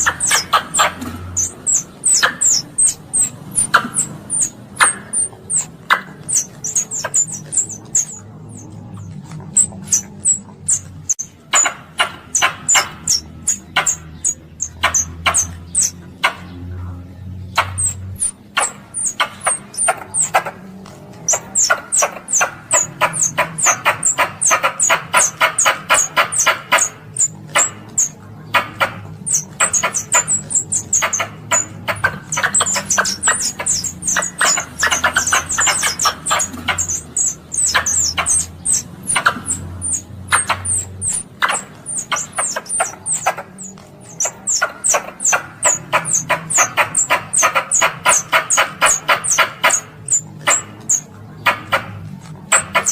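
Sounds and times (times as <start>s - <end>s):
squirrel chattering chirps: 0.0s - 16.7s, 17.4s - 52.9s.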